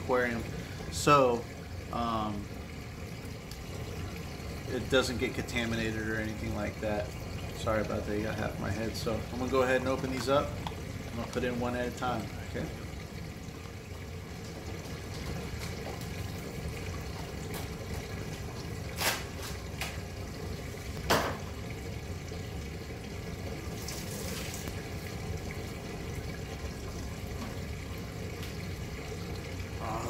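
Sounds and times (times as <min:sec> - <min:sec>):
running water rushing: 0:00.0 - 0:30.0.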